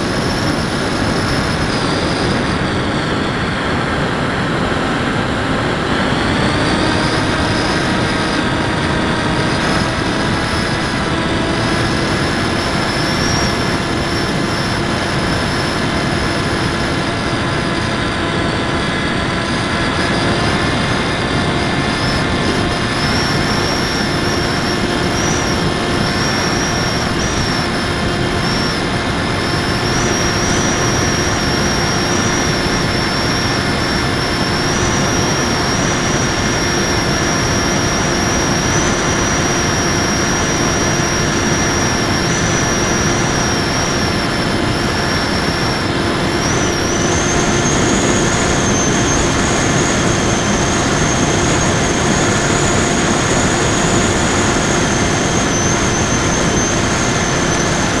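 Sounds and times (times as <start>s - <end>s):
electric motor high whine: 0.0s - 58.0s
wind noise: 0.0s - 58.0s.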